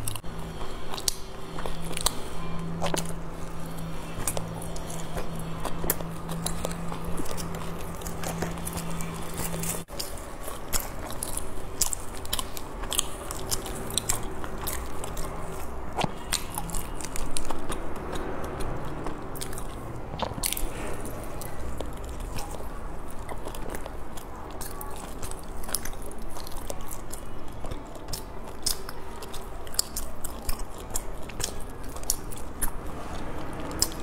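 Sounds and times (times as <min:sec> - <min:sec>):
wet chewing mouth sounds: 0:00.0 - 0:34.0.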